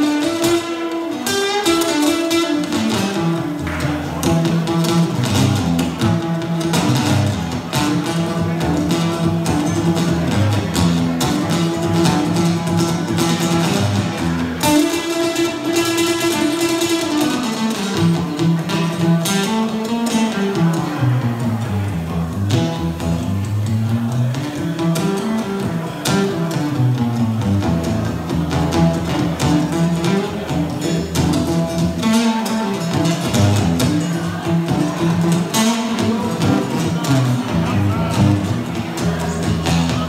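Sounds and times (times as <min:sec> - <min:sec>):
acoustic guitar playing: 0:00.0 - 0:40.0.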